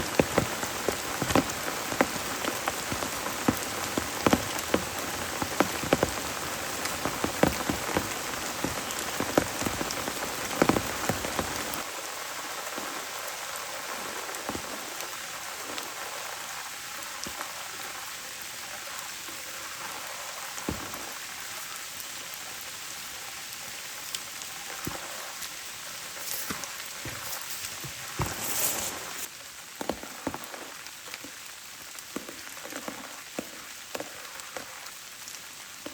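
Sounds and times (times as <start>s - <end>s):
rain hiss: 0.0s - 35.9s
raindrops striking a surface: 0.0s - 35.9s.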